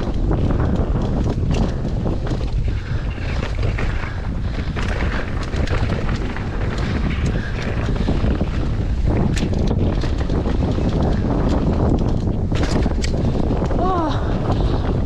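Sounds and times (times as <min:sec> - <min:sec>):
bike clicks and rattles: 0:00.0 - 0:15.0
tyre and trail noise: 0:00.0 - 0:15.0
wind buffeting microphone: 0:00.0 - 0:15.0.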